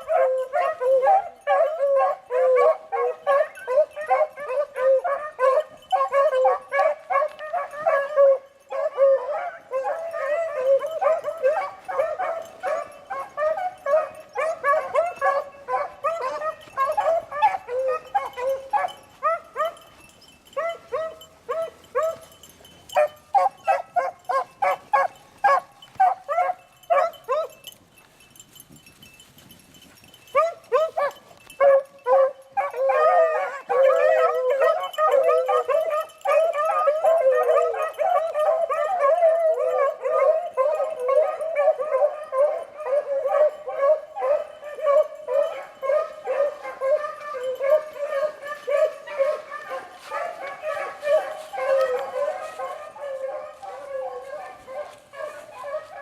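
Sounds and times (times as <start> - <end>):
beagles baying: 0.0 - 56.0.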